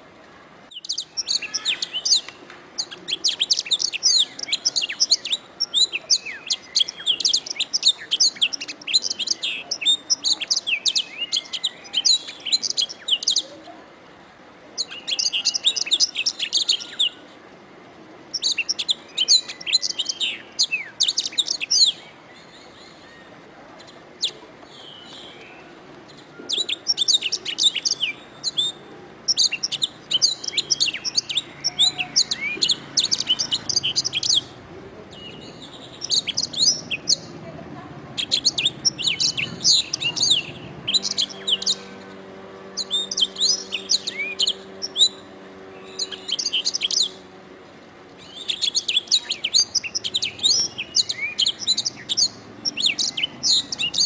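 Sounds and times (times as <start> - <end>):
canary singing trills and chirps: 0.7 - 13.6, 14.8 - 17.2, 18.3 - 47.4, 48.1 - 54.0.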